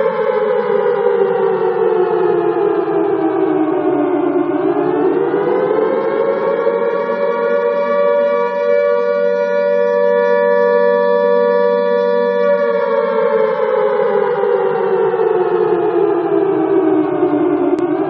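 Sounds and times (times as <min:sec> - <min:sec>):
alarm siren wailing: 0:00.0 - 0:18.0.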